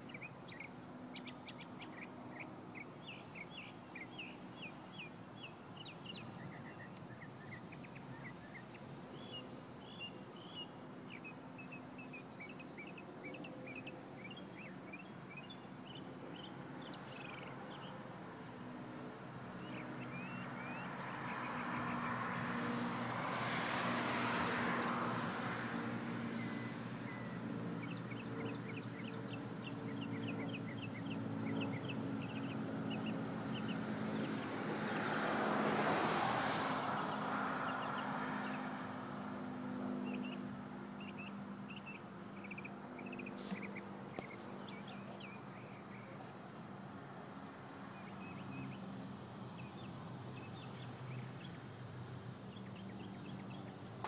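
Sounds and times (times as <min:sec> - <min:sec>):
small birds chirping: 0:00.0 - 0:35.3, 0:39.9 - 0:46.7, 0:47.4 - 0:54.0
vehicles passing by: 0:00.0 - 0:54.0.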